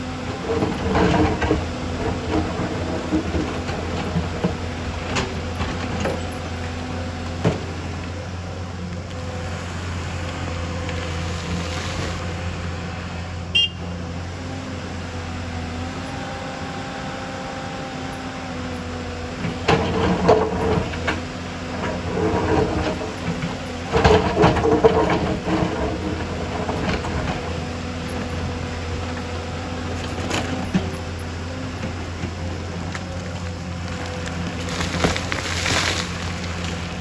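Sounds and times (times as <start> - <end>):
rock and soil clattering: 0.0 - 12.8, 19.2 - 37.0
excavator diesel engine running: 0.0 - 37.0.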